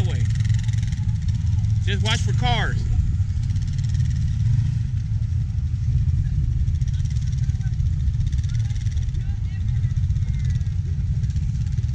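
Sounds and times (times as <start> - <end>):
atv engine running: 0.0 - 11.9.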